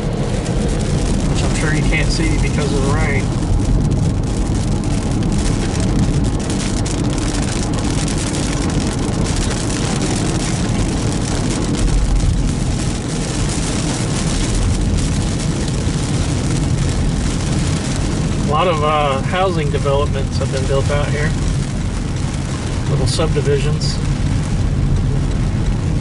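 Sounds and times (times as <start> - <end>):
raindrops ticking on car roof: 0.0 - 26.0
road rumble: 0.0 - 26.0.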